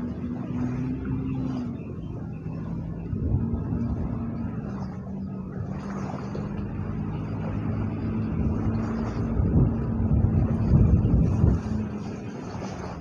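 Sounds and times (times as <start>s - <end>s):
engine running with low rumble: 0.0s - 13.0s.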